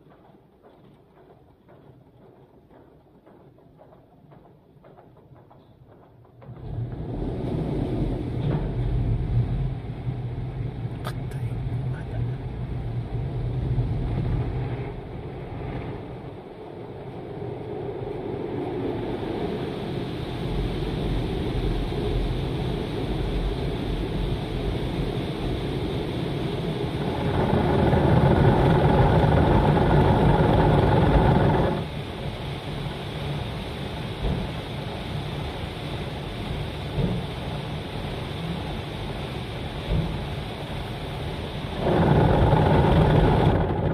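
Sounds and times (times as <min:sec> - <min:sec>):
car wash machinery and water: 0:00.0 - 0:43.9.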